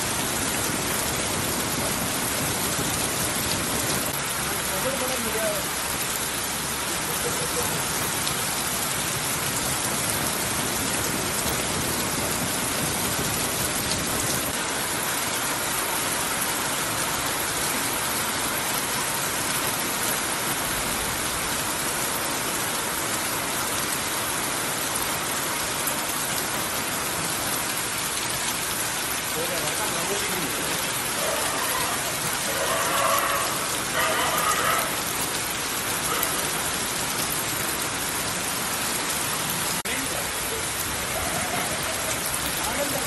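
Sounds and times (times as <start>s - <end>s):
heavy rain on a wet street: 0.0s - 43.0s.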